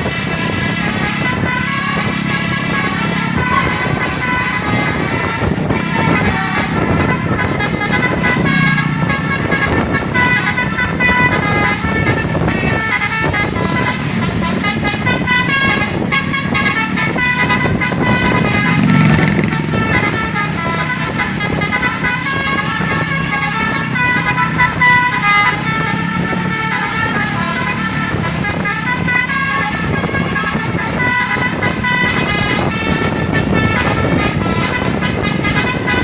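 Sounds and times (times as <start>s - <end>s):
bus engine running: 0.0s - 36.0s
multi-tone bus horn tune: 0.0s - 36.0s.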